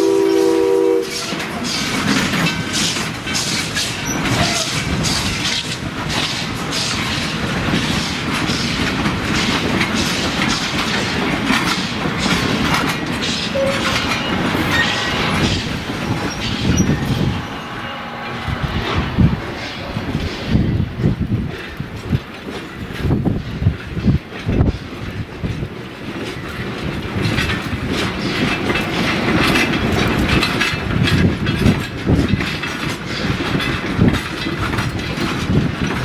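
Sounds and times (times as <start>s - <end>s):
train rumbling along track: 0.0s - 36.0s
wheels clattering over rail joints: 1.1s - 17.3s, 20.5s - 36.0s.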